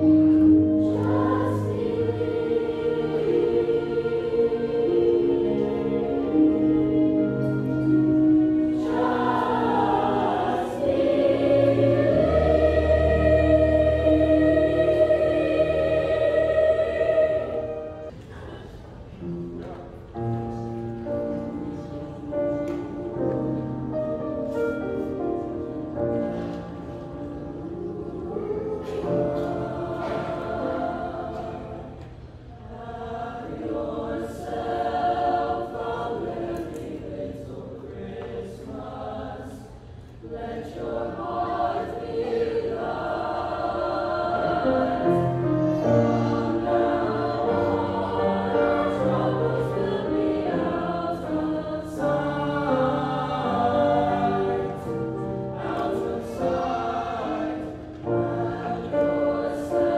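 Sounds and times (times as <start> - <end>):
piano accompaniment: 0.0 - 18.2, 19.1 - 32.2, 40.3 - 59.9
choir singing: 0.0 - 18.6, 20.2 - 59.9.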